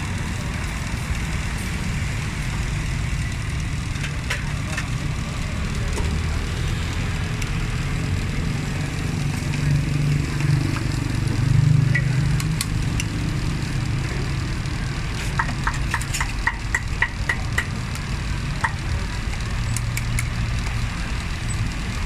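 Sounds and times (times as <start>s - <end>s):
low engine or traffic hum: 0.0s - 22.0s.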